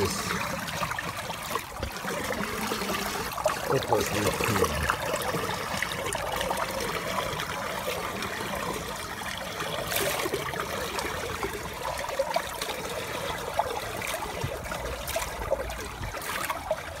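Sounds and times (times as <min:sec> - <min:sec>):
sharp water splashes: 0:00.0 - 0:17.0
water trickling: 0:00.0 - 0:17.0.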